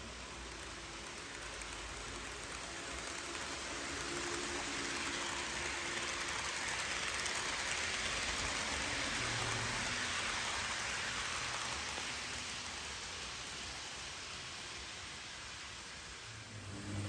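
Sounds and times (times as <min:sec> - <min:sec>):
model train wheels on rails: 0:00.0 - 0:17.0.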